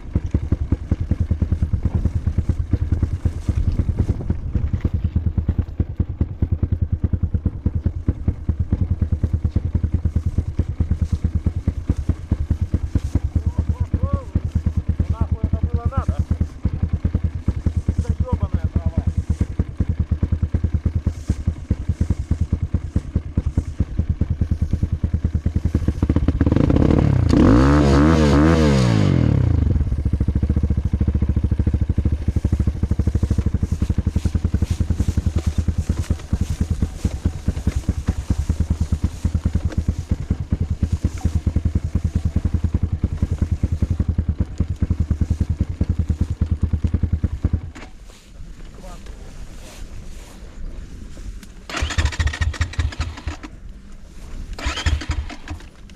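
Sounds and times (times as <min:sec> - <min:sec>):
off-road motorcycle engine revving: 0:00.0 - 0:55.9.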